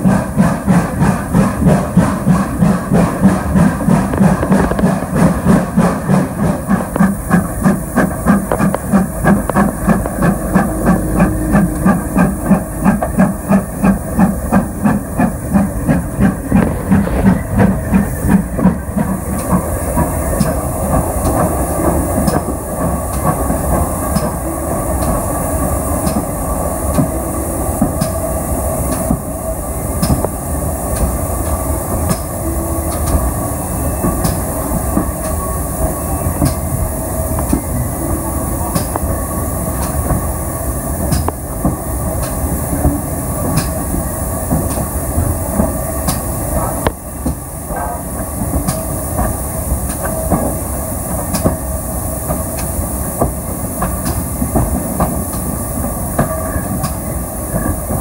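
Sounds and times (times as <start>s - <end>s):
rumble of train wheels on track: 0.0s - 58.0s.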